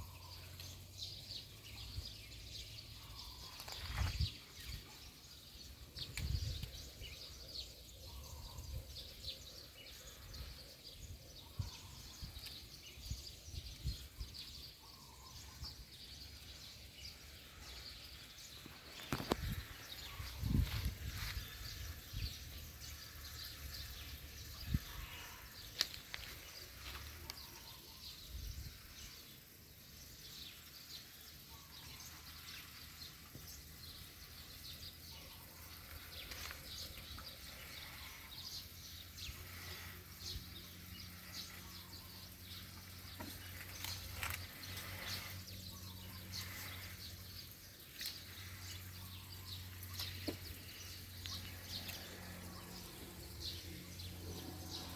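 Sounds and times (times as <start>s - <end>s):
bird chirps: 0.0s - 54.9s.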